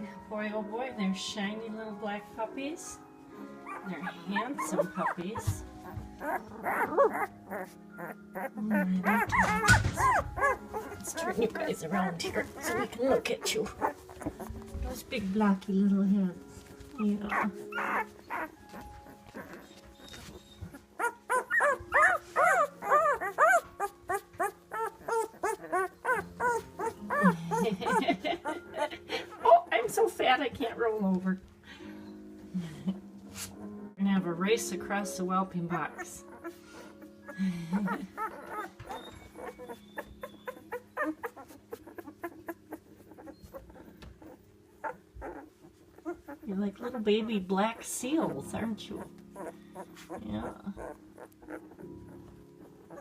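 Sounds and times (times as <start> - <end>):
puppies whimpering and crying: 3.3 - 31.1, 35.6 - 53.0.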